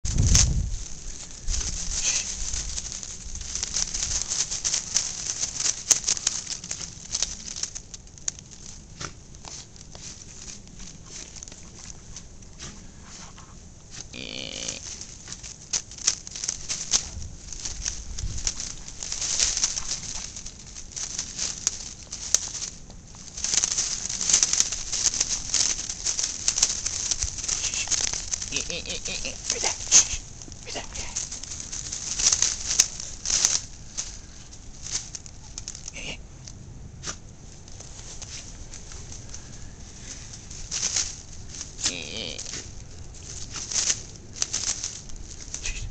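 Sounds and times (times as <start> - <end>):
twigs and leaves crackling: 0.0 - 45.9.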